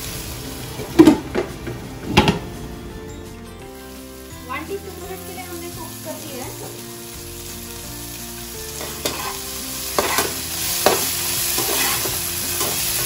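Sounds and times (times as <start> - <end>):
vegetables sizzling in oil: 0.0 - 2.8, 3.6 - 13.0.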